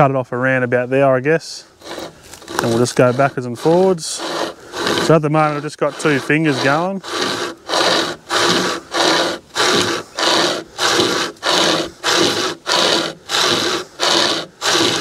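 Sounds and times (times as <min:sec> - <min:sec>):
pocket chainsaw rasping through branch: 0:01.8 - 0:15.0.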